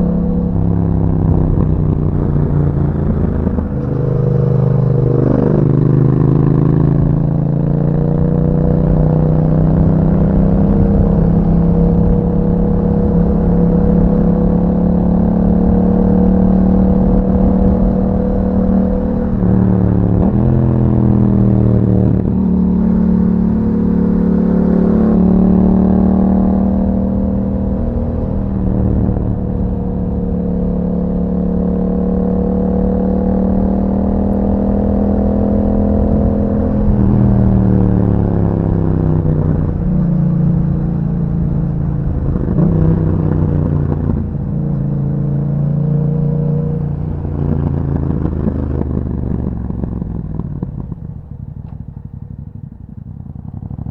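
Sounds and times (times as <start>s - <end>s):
motorcycle engine running: 0.0s - 53.9s
road and wind rumble: 0.0s - 53.9s.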